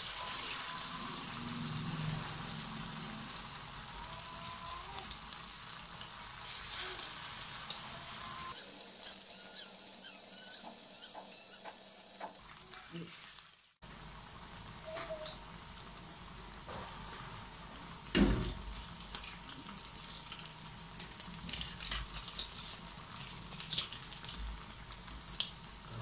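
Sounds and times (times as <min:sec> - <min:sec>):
patties sizzling in hot oil: 0:00.0 - 0:26.0.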